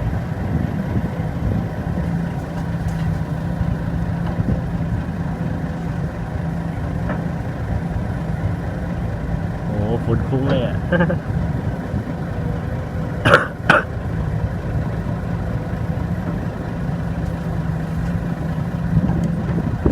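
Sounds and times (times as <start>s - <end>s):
diesel engine rumbling: 0.0s - 19.9s.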